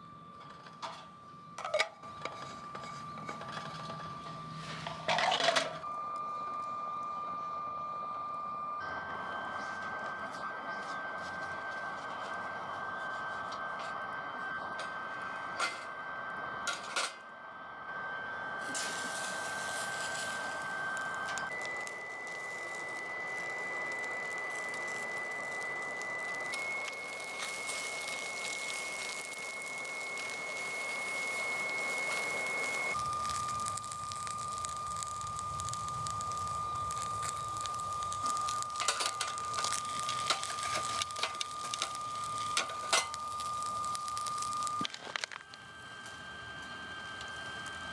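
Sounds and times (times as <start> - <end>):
steady high whine: 0.0 - 47.9
wood fire crackling: 1.6 - 6.7, 9.6 - 15.8, 18.6 - 47.9.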